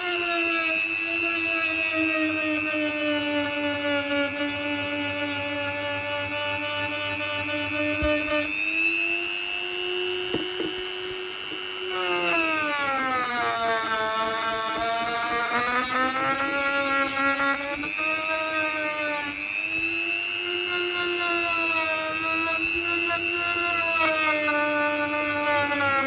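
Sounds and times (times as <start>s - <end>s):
power tool motor whining: 0.0s - 26.0s.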